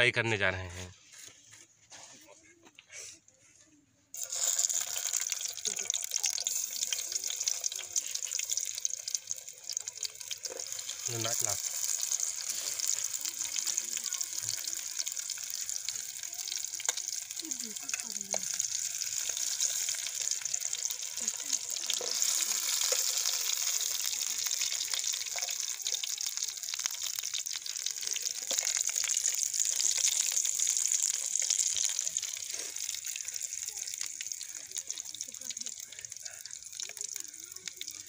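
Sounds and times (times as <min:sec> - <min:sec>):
potatoes sizzling in hot oil: 0:04.2 - 0:38.0.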